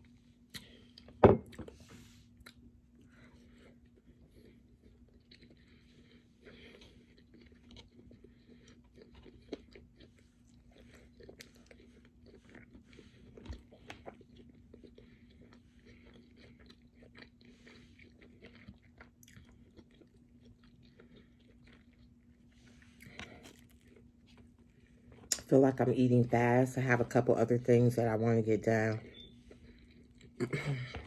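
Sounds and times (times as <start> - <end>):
person chewing food: 0.0 - 25.4, 29.0 - 31.0
faint steady hum: 0.0 - 31.0.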